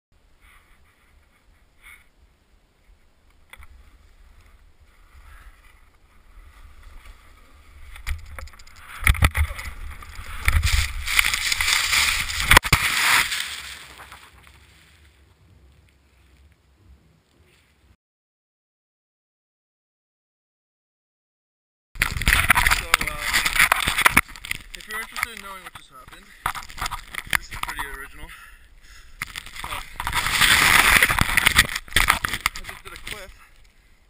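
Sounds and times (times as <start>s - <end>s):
quiet skiing sounds: 0.2s - 18.0s, 24.2s - 34.0s
rush of snow and wind: 0.2s - 18.0s, 22.0s - 34.0s.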